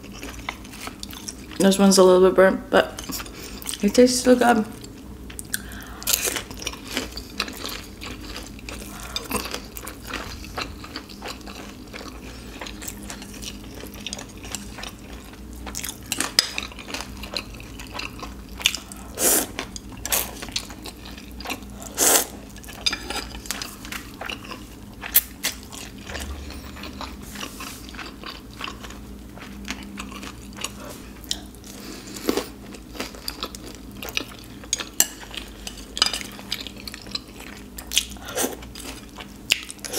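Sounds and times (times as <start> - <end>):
chewing: 4.8 - 39.9.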